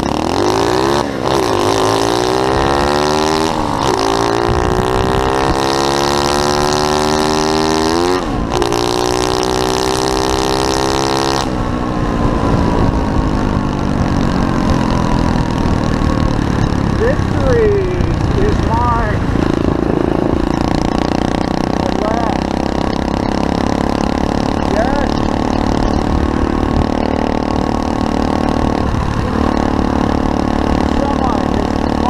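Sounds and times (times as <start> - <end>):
motorbike engine accelerating: 0.0 - 32.0.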